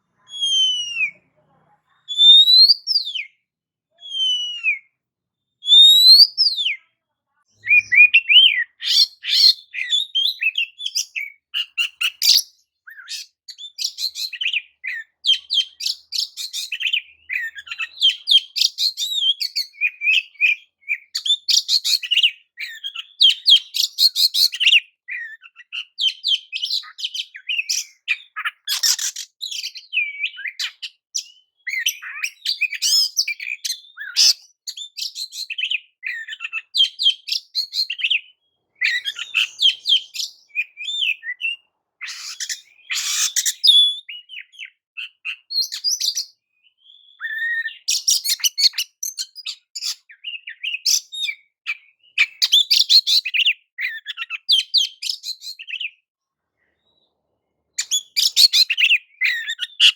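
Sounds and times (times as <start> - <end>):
bird singing whistled phrases: 0.2 - 1.3, 2.1 - 3.4, 4.0 - 5.0, 5.6 - 6.9, 7.5 - 56.0, 57.8 - 59.9.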